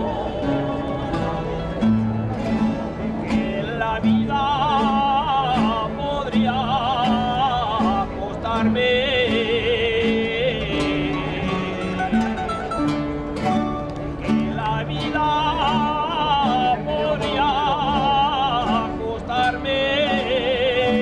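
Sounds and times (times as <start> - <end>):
plucked strings accompaniment: 0.0 - 21.0.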